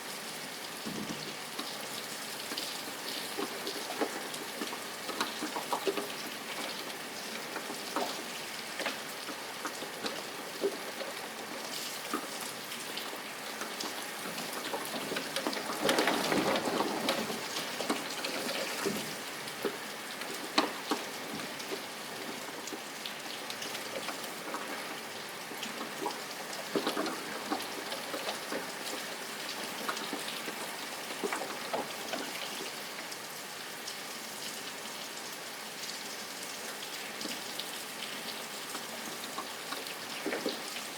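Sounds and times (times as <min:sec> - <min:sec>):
rain drops ticking on hard surface: 0:00.0 - 0:40.9.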